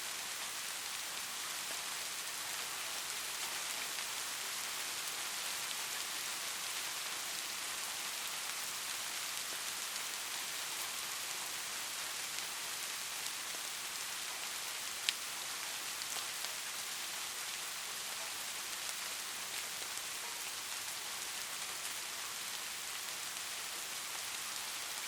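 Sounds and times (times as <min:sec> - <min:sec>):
rain on a hard surface: 0:00.0 - 0:25.0.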